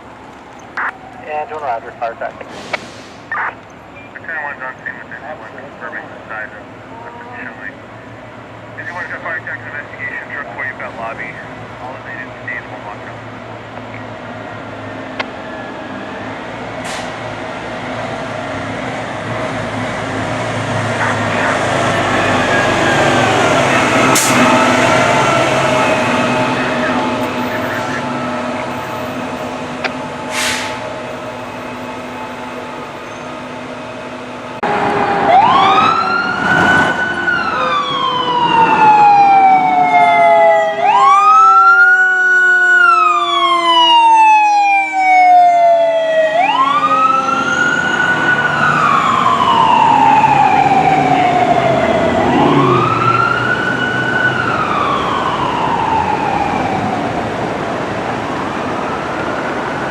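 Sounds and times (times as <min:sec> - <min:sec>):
fire truck siren wailing: 0:00.0 - 0:59.9.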